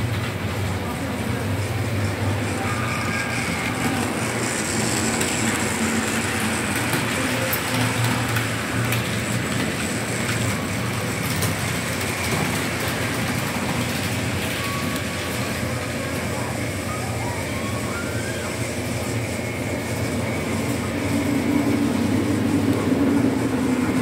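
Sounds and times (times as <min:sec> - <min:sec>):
model trains rumbling on track: 0:00.0 - 0:24.0.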